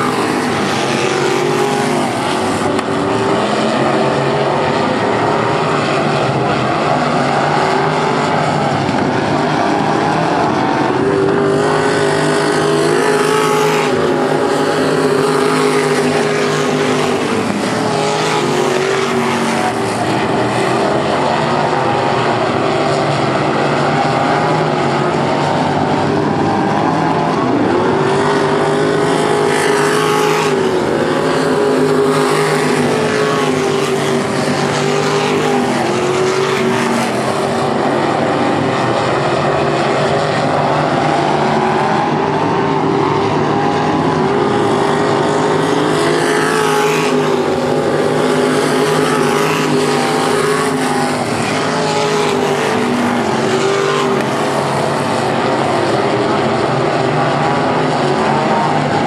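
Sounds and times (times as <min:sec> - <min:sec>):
race car engines roaring: 0:00.0 - 0:59.0.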